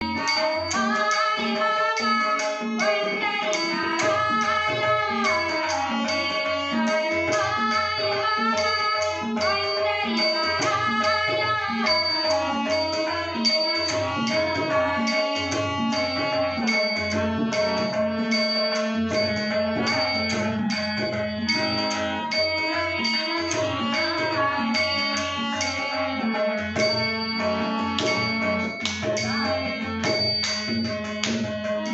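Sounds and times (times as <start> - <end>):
long held melodic tones: 0.0 - 31.9
tabla beat: 0.0 - 31.9.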